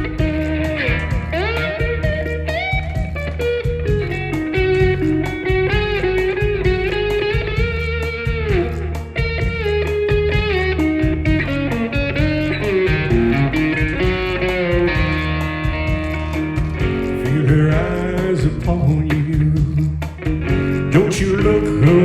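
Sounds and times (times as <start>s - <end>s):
bass line: 0.0s - 22.0s
lead electric guitar with bent notes: 0.0s - 22.0s
steady drum beat: 0.0s - 22.0s.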